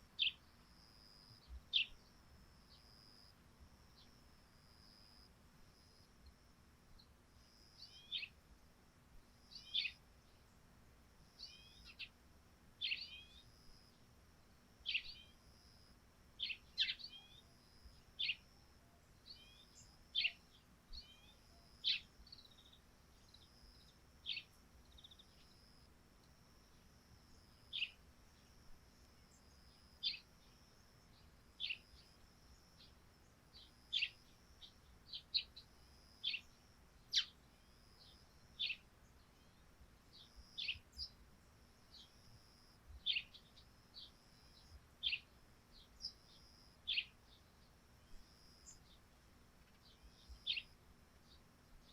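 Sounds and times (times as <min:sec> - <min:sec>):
faint steady high hiss: 0:00.0 - 0:51.9
sparrows chirping: 0:00.2 - 0:03.3, 0:07.0 - 0:08.4, 0:09.5 - 0:10.6, 0:11.4 - 0:12.2, 0:12.8 - 0:14.0, 0:14.8 - 0:15.8, 0:16.4 - 0:25.8, 0:26.7 - 0:51.9.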